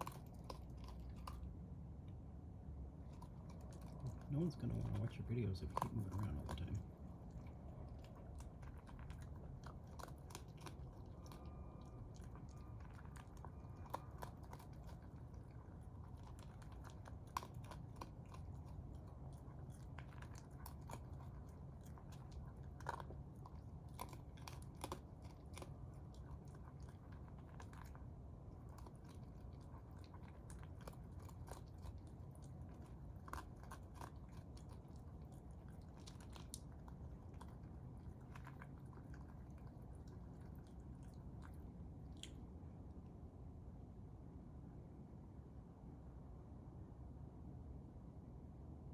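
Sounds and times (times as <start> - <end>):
raccoon crunching food: 0.0 - 42.9
steady low hum: 0.0 - 48.9.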